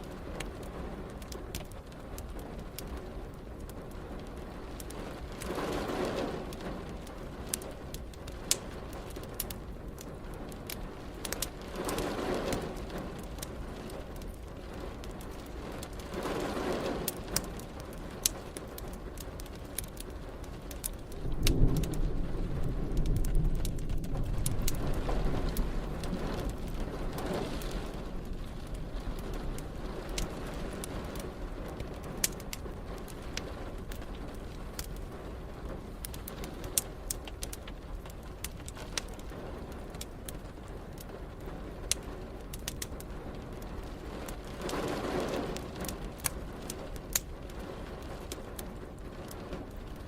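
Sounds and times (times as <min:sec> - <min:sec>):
fire crackling and popping: 0:00.0 - 0:50.0
low rumble of thunder: 0:00.0 - 0:50.0
steady rain: 0:00.0 - 0:50.0.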